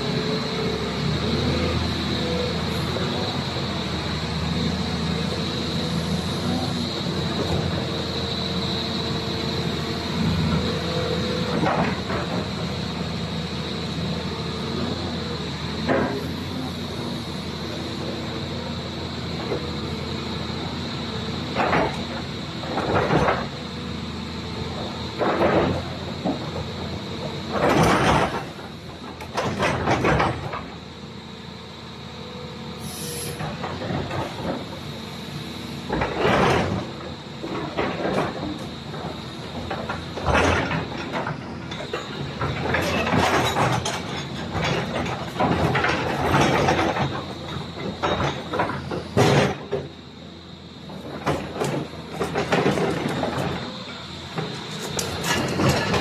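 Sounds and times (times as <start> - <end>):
excavator diesel engine: 0.0 - 56.0
hydraulic hiss and clatter: 0.6 - 31.5, 32.7 - 56.0.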